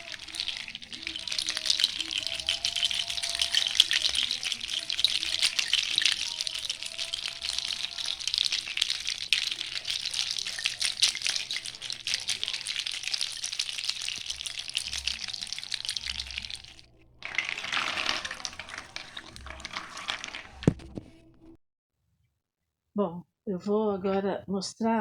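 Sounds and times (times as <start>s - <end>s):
bottle cap rattle clicking: 0.0s - 21.0s.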